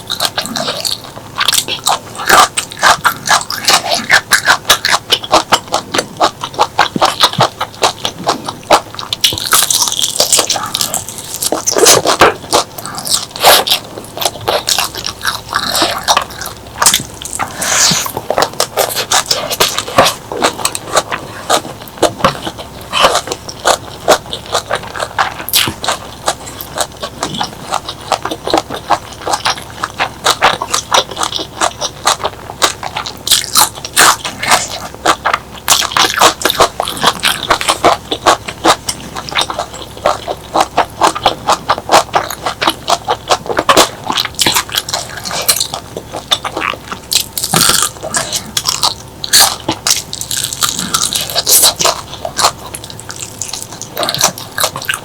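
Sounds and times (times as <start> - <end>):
crunching and chewing: 0.0 - 55.0.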